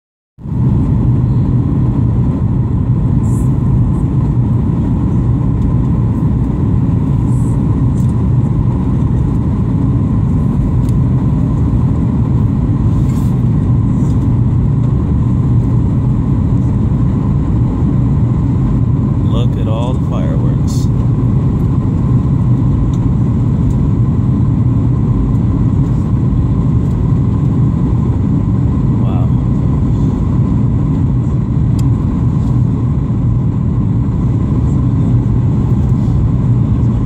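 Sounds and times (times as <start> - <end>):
airliner engine rumble: 0.4 - 37.0
thin steady whine: 0.4 - 37.0.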